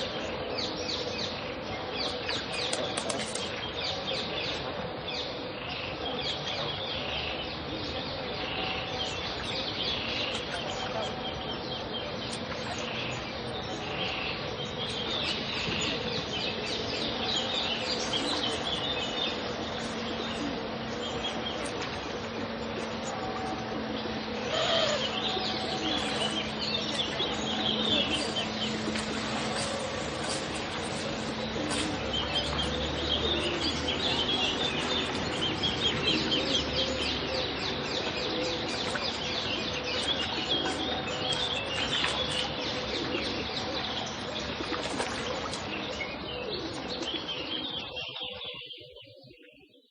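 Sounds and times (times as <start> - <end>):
steady background noise: 0.0 - 48.6
birds chirping: 0.0 - 49.9.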